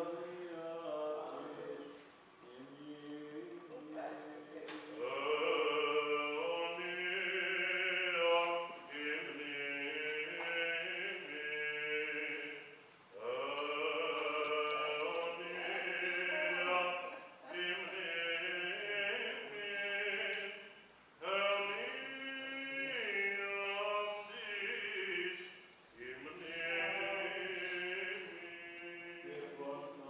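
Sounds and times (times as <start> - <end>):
voices chanting: 4.7 - 30.0.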